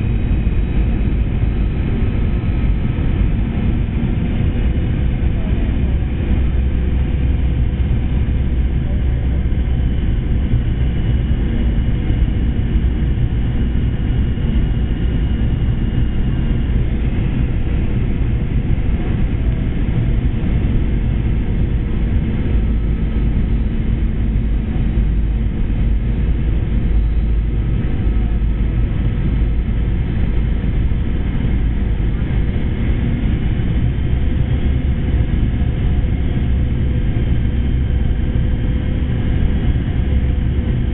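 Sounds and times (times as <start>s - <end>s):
airplane cabin rumble: 0.0s - 40.9s
faint steady whine: 0.0s - 40.9s.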